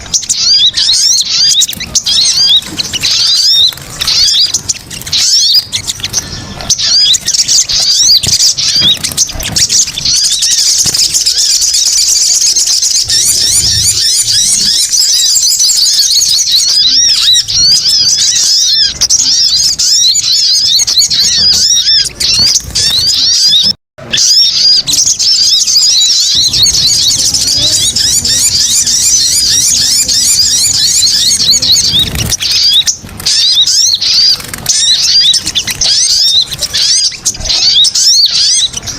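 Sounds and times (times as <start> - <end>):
birds chattering: 0.0 - 38.9.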